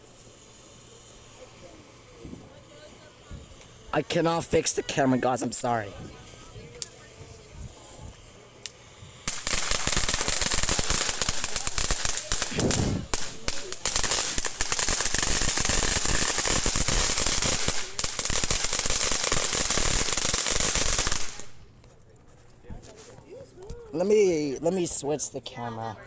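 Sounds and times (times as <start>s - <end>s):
firecrackers banging: 0.0s - 21.7s.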